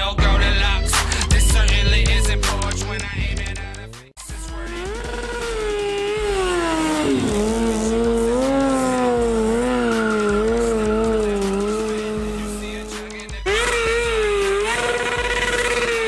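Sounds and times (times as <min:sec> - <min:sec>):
motorcycle engine revving: 0:01.0 - 0:16.0.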